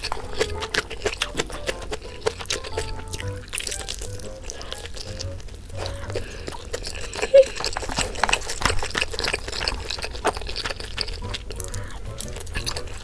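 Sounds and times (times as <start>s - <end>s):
liquid sounds of eating: 0.0s - 13.0s.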